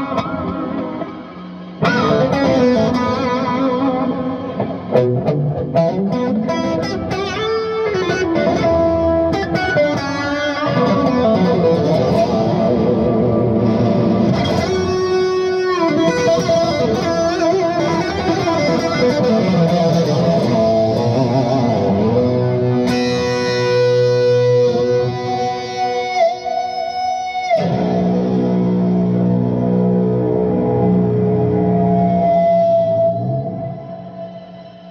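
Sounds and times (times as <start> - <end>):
electric guitar lead lines: 0.0 - 34.9.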